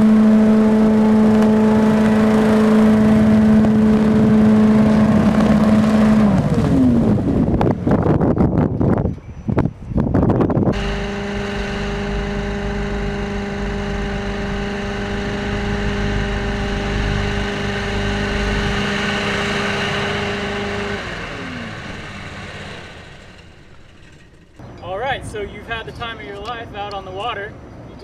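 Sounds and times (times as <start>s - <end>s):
hovercraft engine and fan running: 0.0s - 28.0s.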